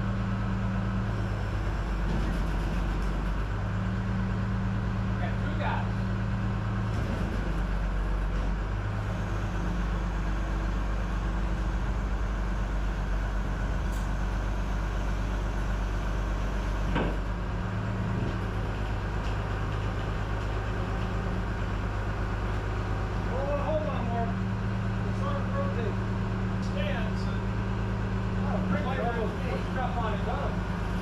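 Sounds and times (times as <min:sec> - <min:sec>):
tow truck engine running: 0:00.0 - 0:31.0.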